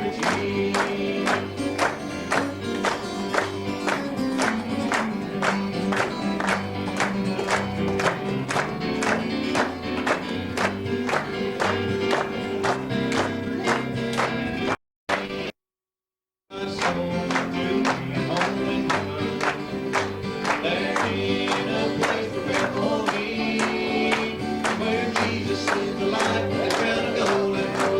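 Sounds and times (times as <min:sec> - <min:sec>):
gospel band playing: 0:00.0 - 0:14.8, 0:16.7 - 0:27.9.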